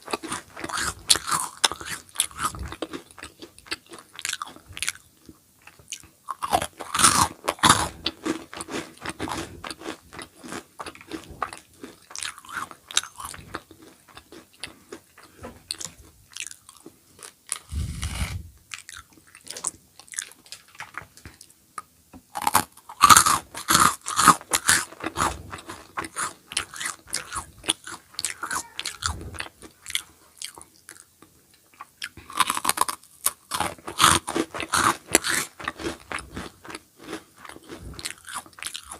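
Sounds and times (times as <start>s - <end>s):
crunchy snack chewing: 0.0s - 21.5s, 22.3s - 38.9s.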